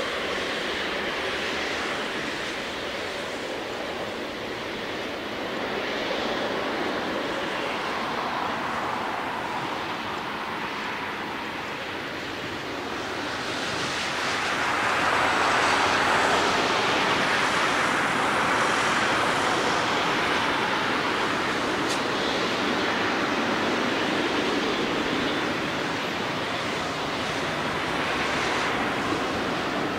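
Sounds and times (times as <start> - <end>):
jet engine roar: 0.0 - 29.9.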